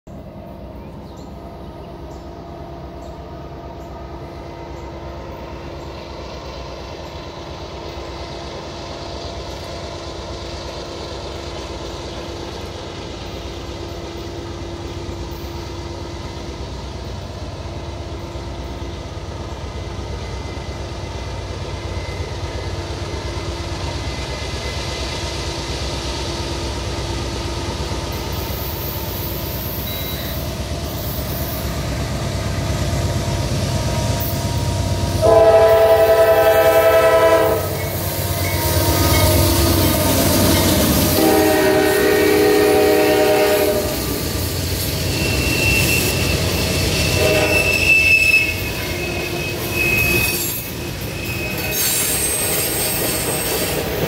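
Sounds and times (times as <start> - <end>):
diesel locomotive rumble: 0.1 - 54.0.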